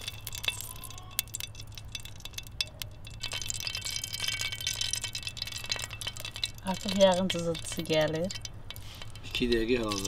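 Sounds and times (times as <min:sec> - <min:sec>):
cooking oil sizzling and crackling: 0:00.0 - 0:10.0.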